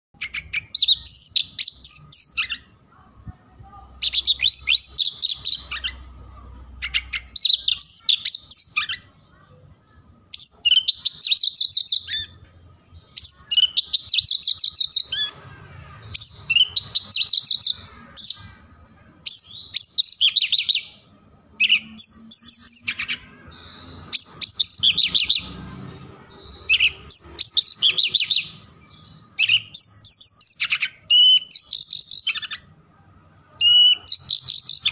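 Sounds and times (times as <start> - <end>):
bird singing trilling phrases: 0.2 - 34.9.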